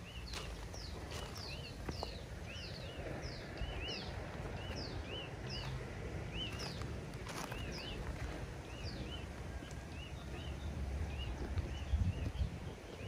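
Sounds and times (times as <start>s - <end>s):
bird chirping: 0.0s - 13.0s
steady low rumble: 0.0s - 13.0s.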